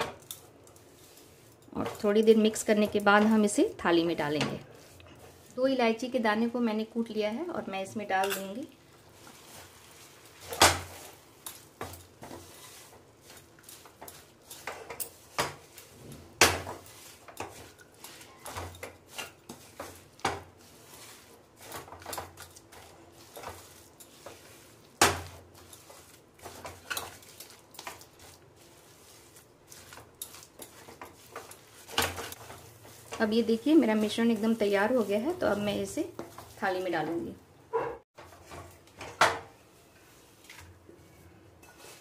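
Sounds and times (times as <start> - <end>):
spatula stirring thick mixture: 0.0 - 7.2, 7.8 - 37.4, 38.2 - 42.0.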